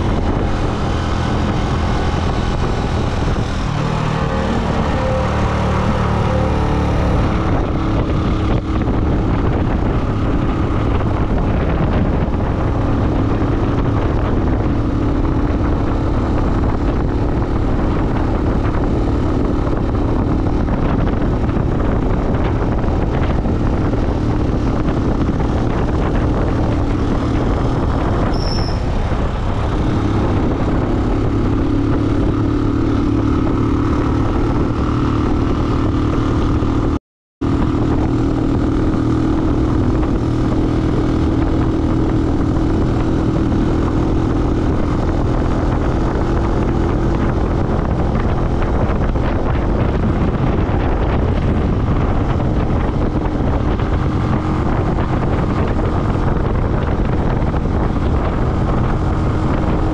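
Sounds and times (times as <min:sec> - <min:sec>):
road noise: 0:00.0 - 0:59.9
vehicle engine hum: 0:00.0 - 0:59.9.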